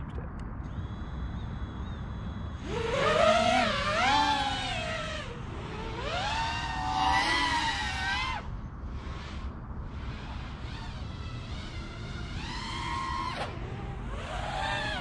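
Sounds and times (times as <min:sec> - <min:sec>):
drone motors whining: 0:00.5 - 0:15.0.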